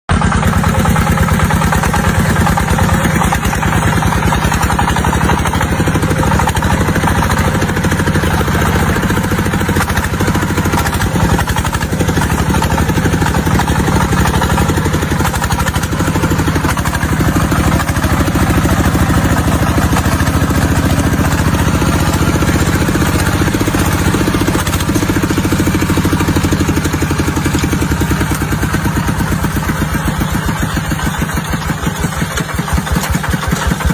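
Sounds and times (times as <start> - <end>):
tractor engine running: 0.1 - 33.9.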